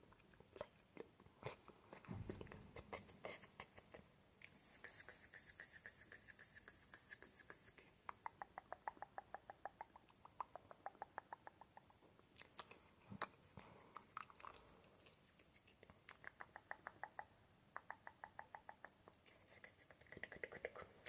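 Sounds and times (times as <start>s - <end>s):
tongue and lip clicks: 0.0s - 21.0s
irregular mouth clicks: 2.8s - 21.0s.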